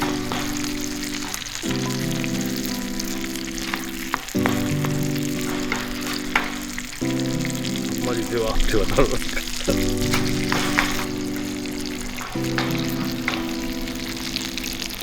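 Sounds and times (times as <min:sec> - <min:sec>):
background music of held chords: 0:00.0 - 0:15.0
food sizzling on a grill: 0:00.0 - 0:15.0
wood fire popping and crackling: 0:00.0 - 0:15.0.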